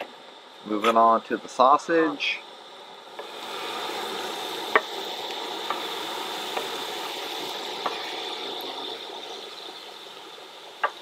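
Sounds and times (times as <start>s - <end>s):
sausage sizzling on griddle: 0.0s - 11.0s.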